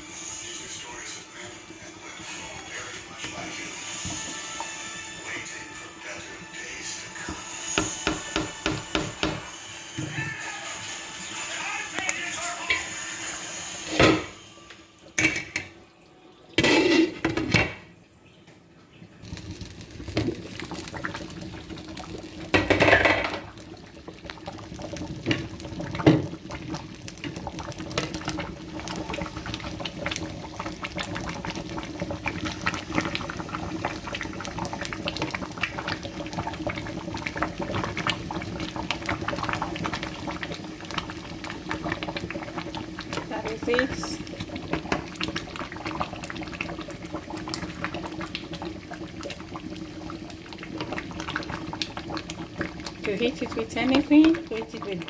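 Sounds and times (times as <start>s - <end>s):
stew bubbling and simmering: 0.0s - 55.0s.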